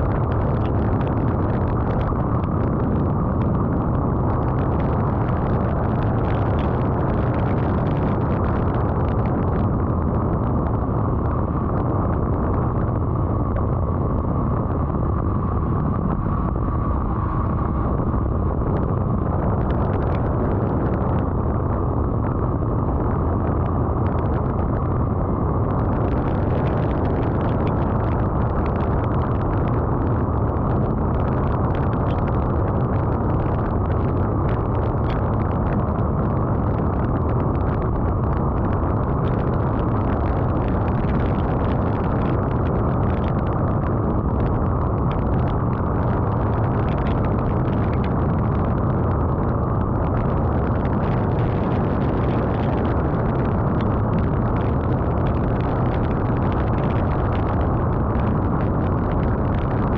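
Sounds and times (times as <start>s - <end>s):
vehicle road and engine noise: 0.0s - 59.9s.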